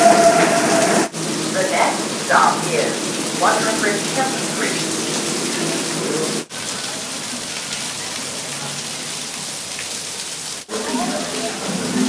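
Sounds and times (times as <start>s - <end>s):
rainwater pouring onto platform: 0.0s - 12.0s.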